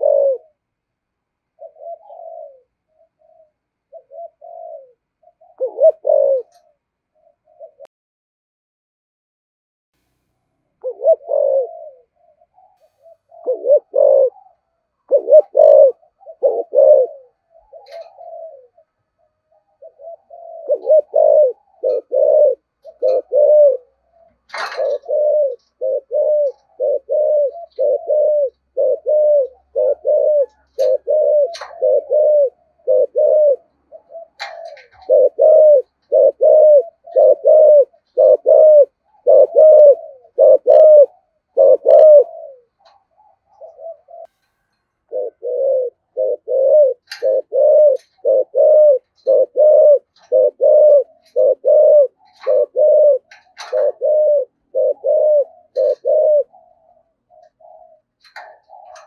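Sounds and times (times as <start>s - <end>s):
dove cooing: 0.0s - 7.9s, 10.8s - 59.0s
small birds chirping: 10.8s - 59.0s.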